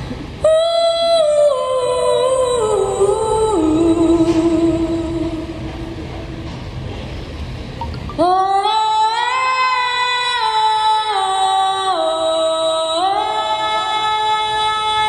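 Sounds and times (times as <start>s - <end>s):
woman singing long held notes: 0.4s - 5.8s, 8.2s - 15.0s.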